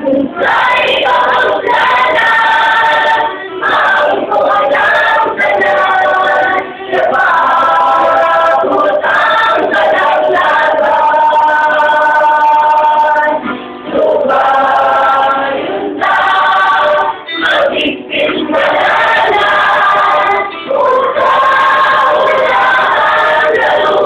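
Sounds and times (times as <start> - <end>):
mixed choir singing: 0.0 - 24.0.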